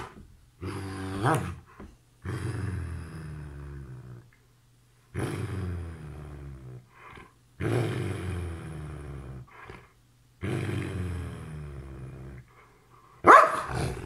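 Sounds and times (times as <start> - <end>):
dog growling grumbles: 0.0 - 4.3, 5.1 - 12.5, 13.7 - 14.0.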